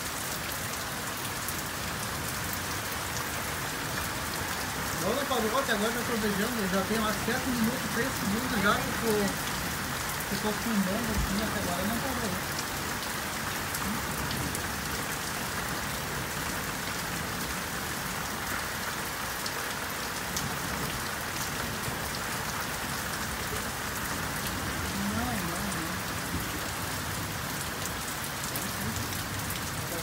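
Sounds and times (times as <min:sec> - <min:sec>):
heavy rain falling: 0:00.0 - 0:30.0
water streaming off roof: 0:00.0 - 0:30.0.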